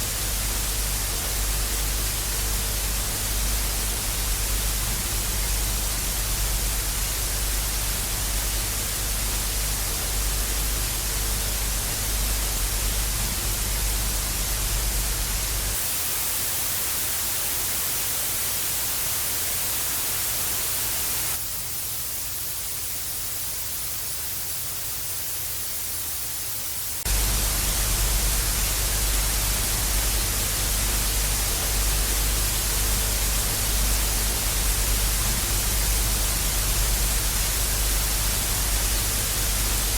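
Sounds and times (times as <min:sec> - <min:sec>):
low electrical hum: 0:00.0 - 0:39.9
tv static hissing: 0:00.0 - 0:39.9.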